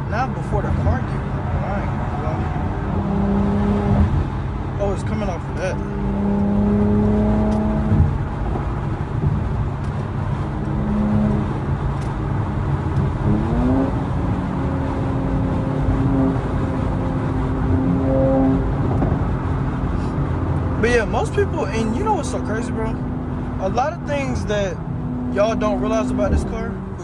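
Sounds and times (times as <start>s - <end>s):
car engine and exhaust drone: 0.0s - 27.0s.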